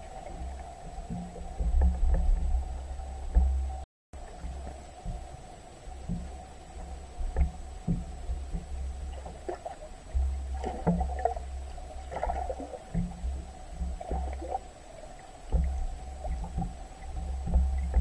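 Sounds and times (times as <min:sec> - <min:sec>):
faint steady hum: 0:00.0 - 0:18.0
muffled underwater water rumble: 0:00.0 - 0:18.0.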